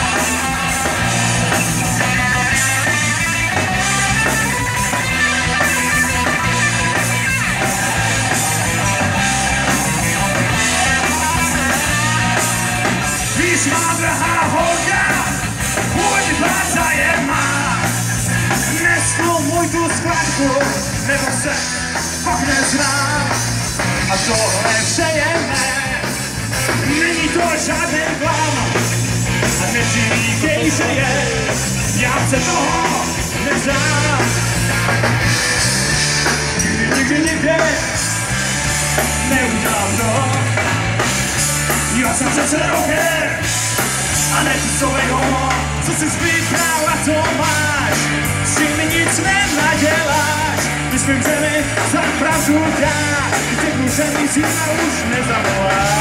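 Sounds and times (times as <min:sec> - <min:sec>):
drum kit: 0:00.0 - 0:56.0
electric guitars: 0:00.0 - 0:56.0
rock band playing: 0:00.0 - 0:56.0.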